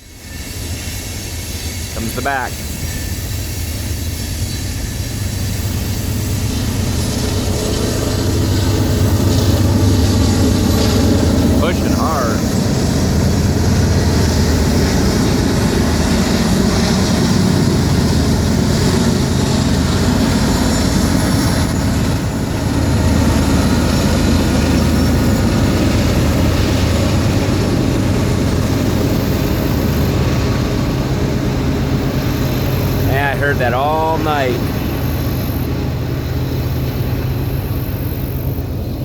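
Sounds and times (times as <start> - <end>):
rushing noise of passing train: 0.0 - 11.6, 12.2 - 33.1
locomotive engine drone: 0.0 - 39.0.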